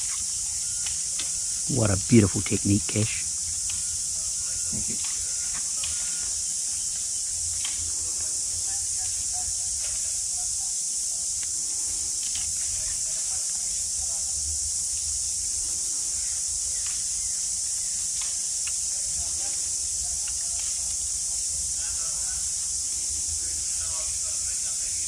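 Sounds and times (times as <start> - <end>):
insect chorus hiss: 0.0 - 25.0.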